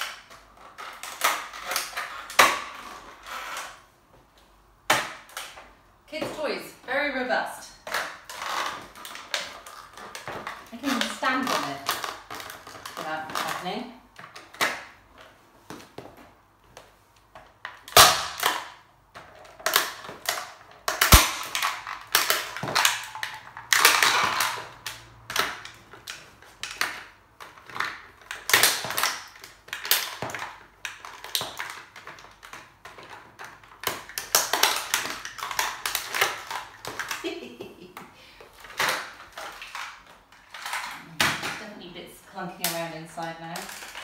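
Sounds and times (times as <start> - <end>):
plastic toy car clicking and creaking: 0.0 - 3.9, 7.8 - 15.4, 16.8 - 37.3, 38.0 - 41.8, 42.6 - 44.0.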